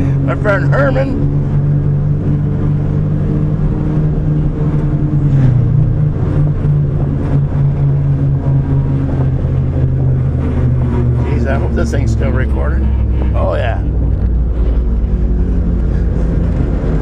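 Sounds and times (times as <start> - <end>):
road noise: 0.0 - 17.0
truck engine running: 0.0 - 17.0.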